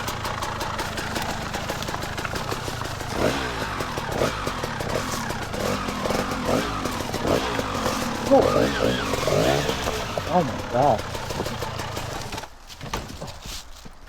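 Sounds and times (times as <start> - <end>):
two-stroke dirt bike revving: 0.0 - 12.5.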